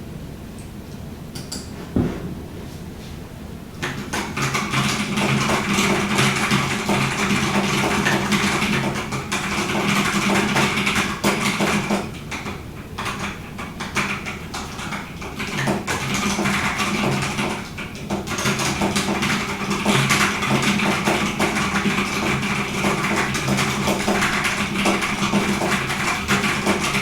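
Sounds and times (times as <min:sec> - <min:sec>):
fast typing on mechanical keyboard: 0:03.8 - 0:27.0.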